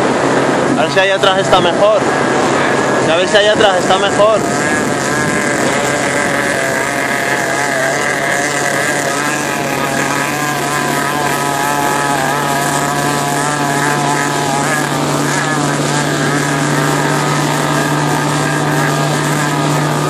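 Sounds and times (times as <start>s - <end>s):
motorboat engine hum and whine: 0.0s - 20.0s
water noise: 0.0s - 20.0s
wind noise: 0.0s - 20.0s.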